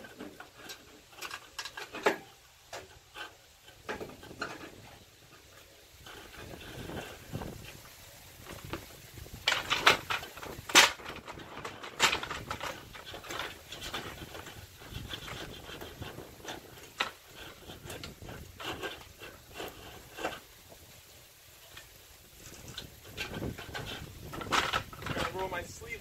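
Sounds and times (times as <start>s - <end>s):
clicks scrapes and knocks on metal frame: 0.0s - 26.0s.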